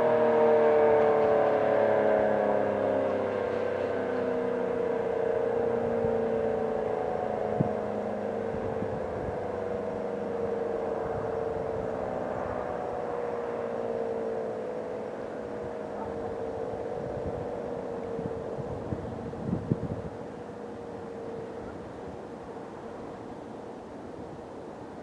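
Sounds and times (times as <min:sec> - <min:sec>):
warning siren winding down: 0:00.0 - 0:24.3.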